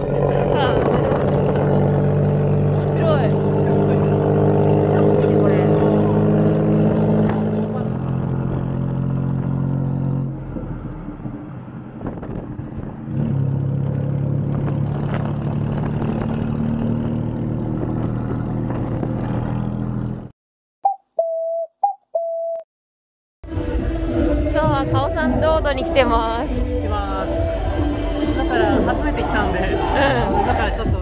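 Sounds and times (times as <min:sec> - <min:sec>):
tuk-tuk engine running: 0:00.0 - 0:20.3, 0:23.5 - 0:31.0.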